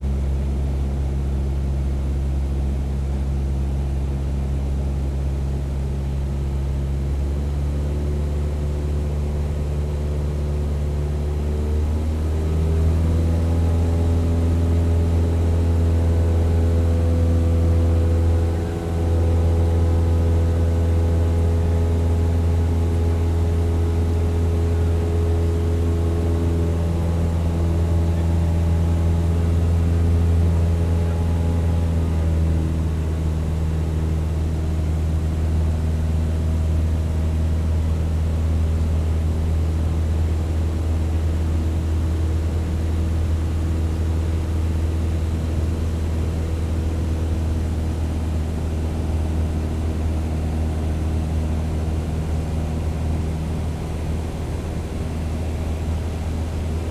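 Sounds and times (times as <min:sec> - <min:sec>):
propeller plane engine drone: 0:00.0 - 0:56.9.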